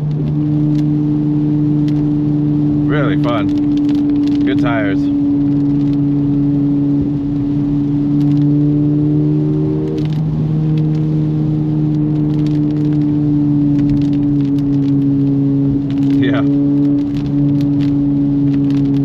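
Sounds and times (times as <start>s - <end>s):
car engine running steadily: 0.0s - 19.0s
tyre noise on wet road: 0.0s - 19.0s.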